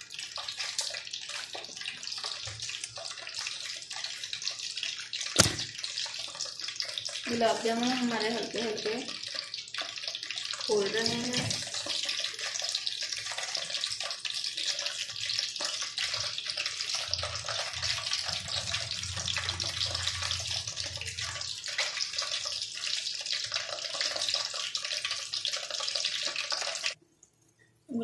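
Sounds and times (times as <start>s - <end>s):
dough sizzling in oil: 0.0s - 28.0s.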